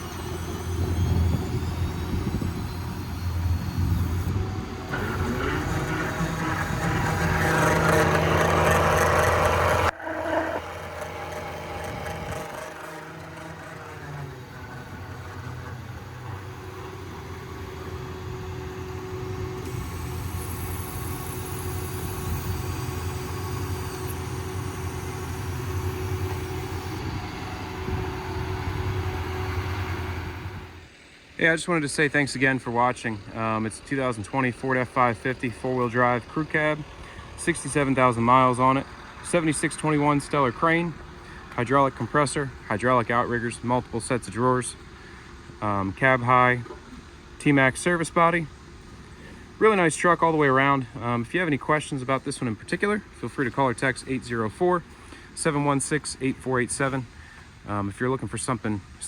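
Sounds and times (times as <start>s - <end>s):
diesel engine revving and idling: 0.0s - 59.0s.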